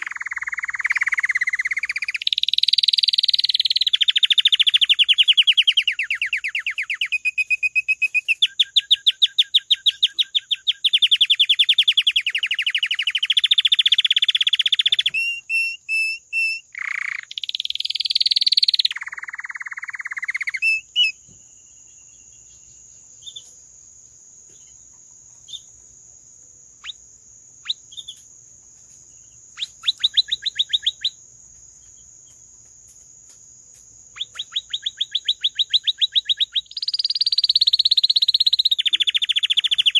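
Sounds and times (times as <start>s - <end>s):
canary singing trills: 0.0s - 23.6s, 24.5s - 25.8s, 26.8s - 32.4s, 34.1s - 39.9s
bird chirps: 0.0s - 23.7s, 24.4s - 26.0s, 26.8s - 39.9s.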